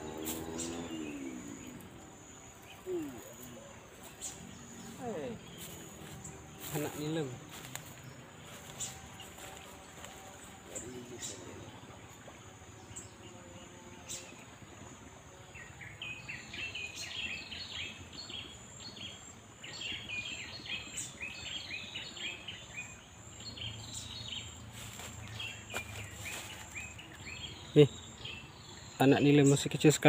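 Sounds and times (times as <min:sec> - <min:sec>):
birds chirping: 0:00.0 - 0:30.0
high insect drone: 0:00.0 - 0:30.0.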